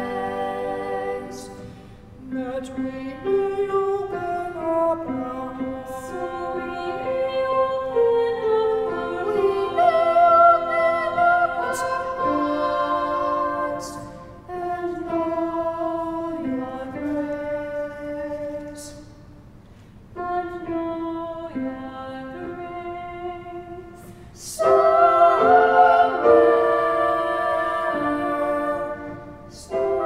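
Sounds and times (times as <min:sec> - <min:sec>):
vocal trio singing in harmony: 0:00.0 - 0:19.2, 0:20.2 - 0:30.0
grand piano accompaniment: 0:00.0 - 0:30.0.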